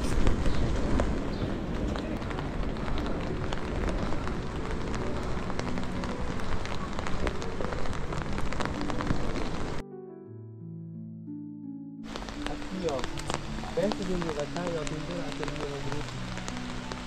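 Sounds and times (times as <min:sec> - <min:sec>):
steady rain: 0:00.0 - 0:09.8, 0:12.1 - 0:17.0.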